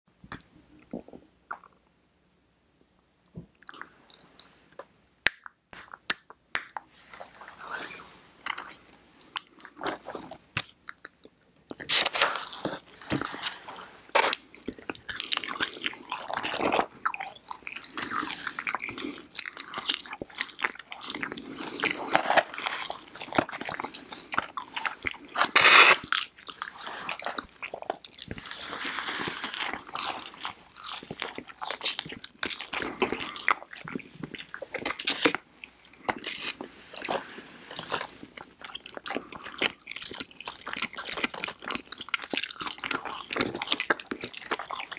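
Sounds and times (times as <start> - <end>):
chewing and crunching fried food: 8.4 - 44.9.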